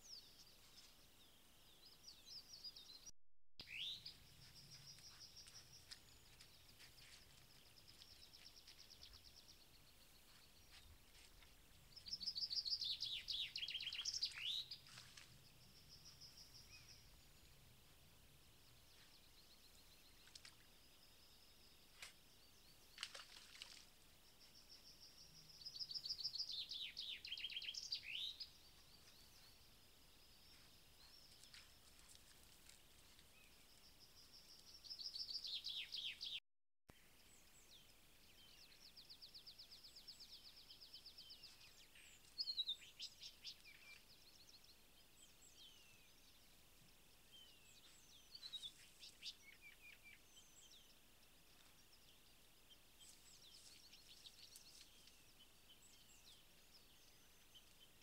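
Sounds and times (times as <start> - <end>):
faint outdoor hiss: 0.0 - 36.3, 36.9 - 58.0.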